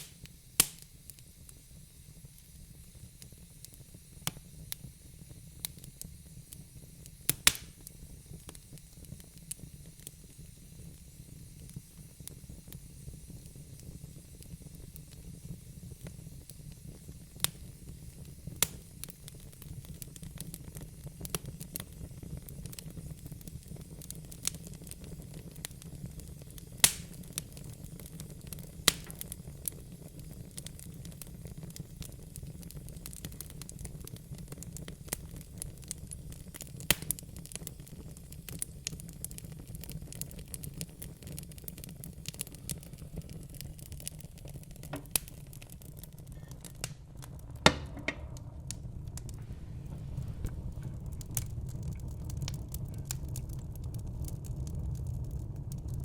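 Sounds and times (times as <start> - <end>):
burning logs crackling and popping: 0.0 - 56.0
low flame rumble with hiss: 0.0 - 56.0.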